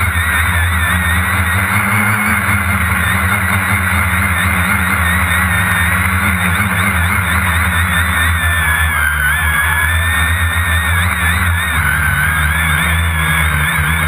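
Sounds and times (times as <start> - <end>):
drone propellers whining: 0.0 - 14.0
low hum: 0.0 - 14.0.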